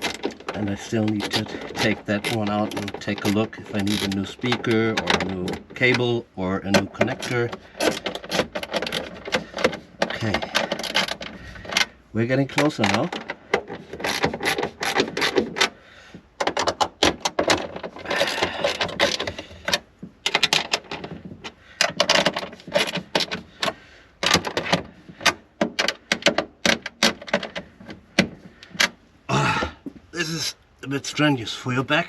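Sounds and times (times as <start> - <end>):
rustling and scraping: 0.0 - 30.4
car parts clicking and rattling: 0.0 - 30.8.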